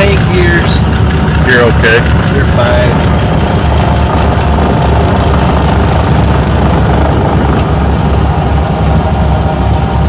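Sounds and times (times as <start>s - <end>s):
airplane engine and propeller: 0.0s - 10.0s.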